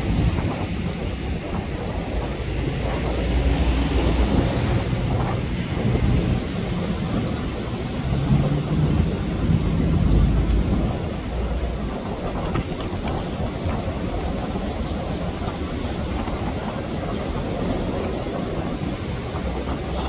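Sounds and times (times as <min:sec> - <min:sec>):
engine hum: 0:00.0 - 0:20.0
rumble of passing traffic: 0:00.0 - 0:20.0.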